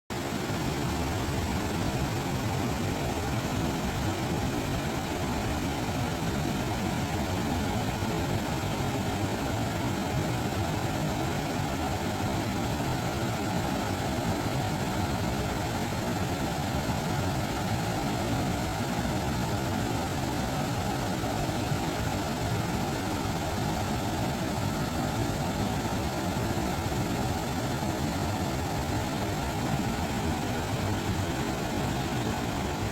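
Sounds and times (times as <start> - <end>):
waterfall rushing: 0.2 - 32.9.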